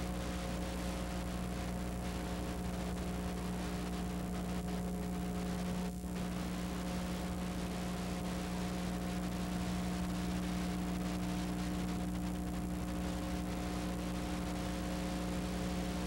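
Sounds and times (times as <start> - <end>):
electrical hum with constant tones: 0.0 - 16.0.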